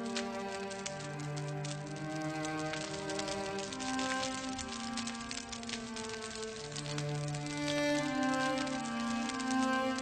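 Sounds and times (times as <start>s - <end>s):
slow violin music: 0.0s - 10.0s
wood fire crackling: 0.0s - 10.0s.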